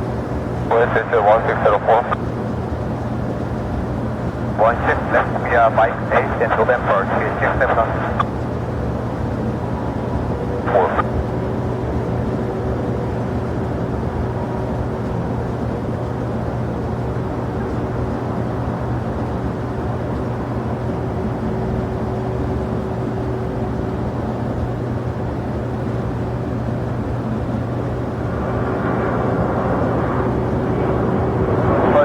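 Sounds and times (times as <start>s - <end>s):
faint steady tones: 0.0s - 32.0s
jet engines rumbling: 0.0s - 32.0s
low hum: 3.7s - 32.0s.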